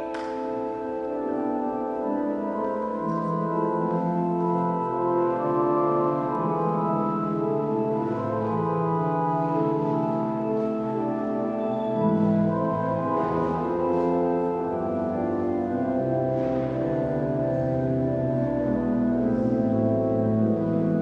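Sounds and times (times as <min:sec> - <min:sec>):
church organ chords: 0:00.0 - 0:21.0.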